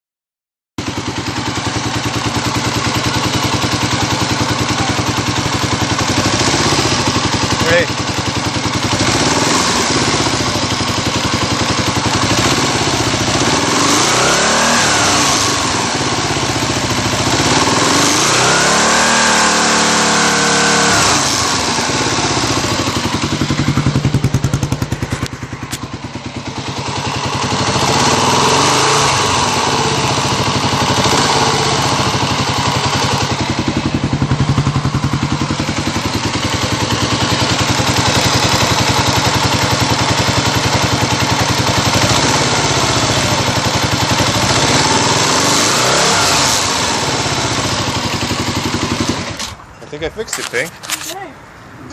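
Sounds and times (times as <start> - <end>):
motorcycle engine idling and revving: 0.8 - 51.9.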